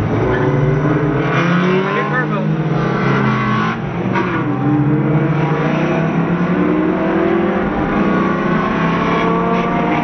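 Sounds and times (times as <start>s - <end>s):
car engine accelerating hard: 0.0s - 10.0s.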